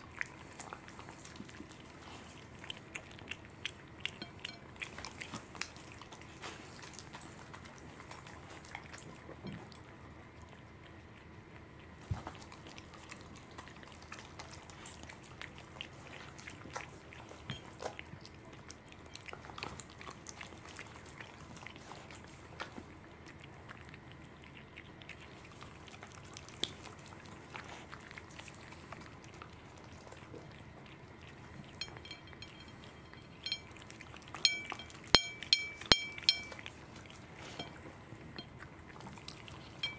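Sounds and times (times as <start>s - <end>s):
animals chewing wetly: 0.0s - 39.9s.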